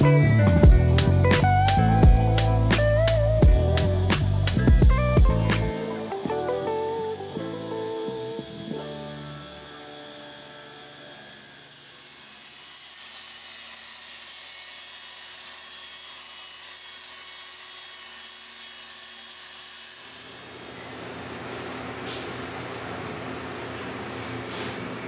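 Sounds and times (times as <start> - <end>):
machine polisher whining: 0.0 - 23.2.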